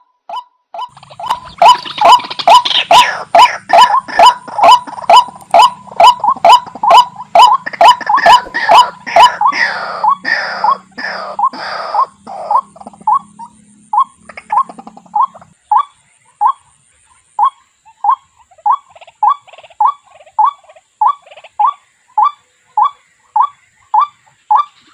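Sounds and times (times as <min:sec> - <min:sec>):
waterhen calling: 0:00.3 - 0:24.9.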